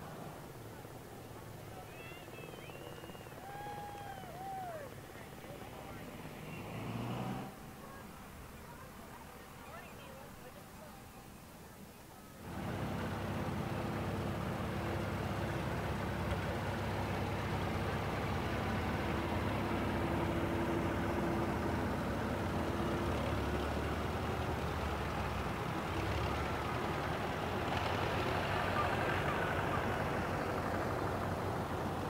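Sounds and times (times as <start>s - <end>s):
tractor engines running at low speed: 0.0s - 11.0s, 12.3s - 32.0s.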